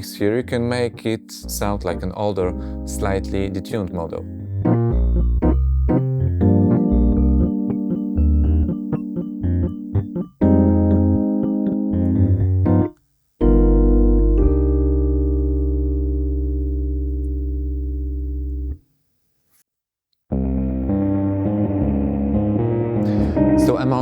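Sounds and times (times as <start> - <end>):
bass notes: 0.0 - 18.8, 20.3 - 24.0
electric piano chords: 0.0 - 18.8, 20.3 - 24.0.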